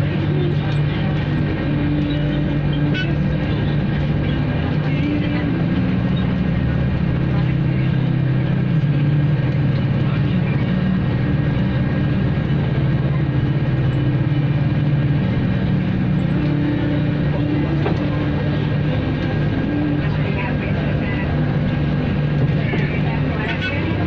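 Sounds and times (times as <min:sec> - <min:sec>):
jet engines humming in cabin: 0:00.0 - 0:24.0.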